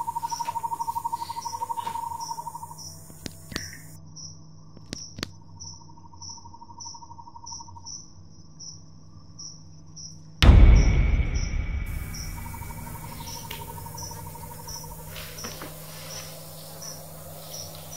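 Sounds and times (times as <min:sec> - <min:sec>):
crickets chirping: 0:00.0 - 0:04.6, 0:05.4 - 0:17.9
low rapid insect trill: 0:00.0 - 0:04.7, 0:05.4 - 0:10.3, 0:12.0 - 0:17.9.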